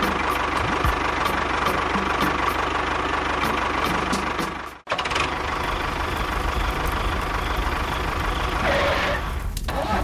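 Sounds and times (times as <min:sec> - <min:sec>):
tractor engine rumbling: 0:00.0 - 0:10.0.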